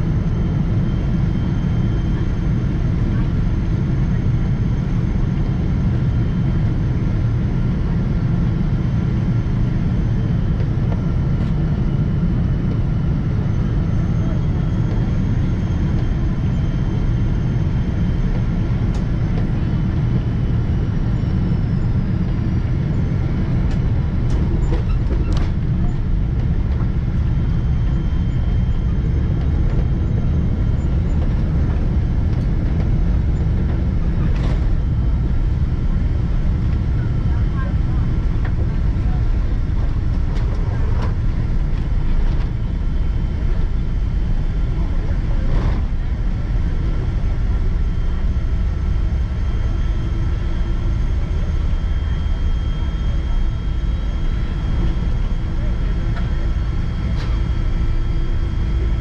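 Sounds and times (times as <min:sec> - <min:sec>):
airflow and jet engine roar: 0:00.0 - 0:59.0.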